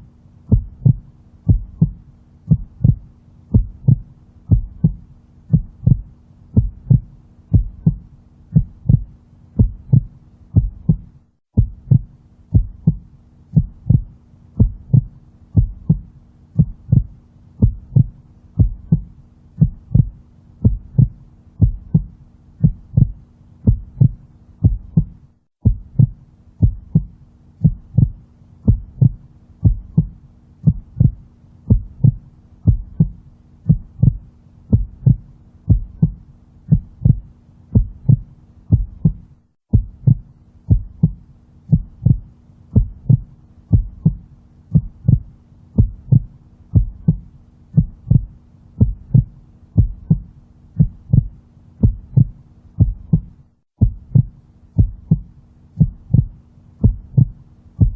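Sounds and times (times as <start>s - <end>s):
faint low hum: 0.0s - 57.9s
heartbeat thumps: 0.4s - 57.9s.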